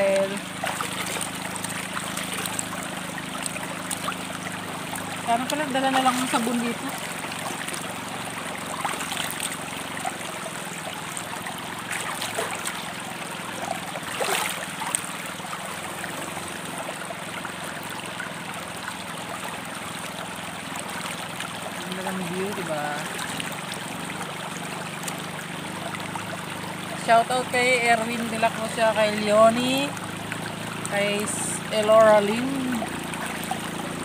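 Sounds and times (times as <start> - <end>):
short water splashes: 0.0 - 34.0
water rushing over stones: 0.0 - 34.0.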